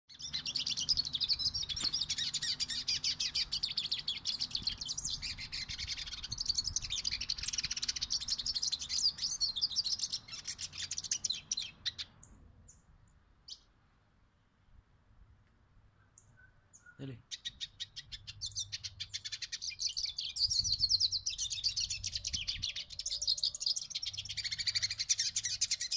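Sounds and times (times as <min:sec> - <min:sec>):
bird twittering warble: 0:00.1 - 0:12.8, 0:16.0 - 0:25.9.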